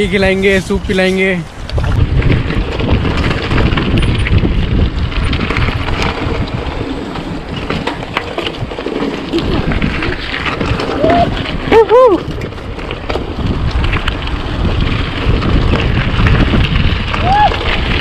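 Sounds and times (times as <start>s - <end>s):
bike rattling clicks: 0.0s - 18.0s
wind buffeting microphone: 0.0s - 18.0s
tyres crunching on gravel: 0.9s - 18.0s.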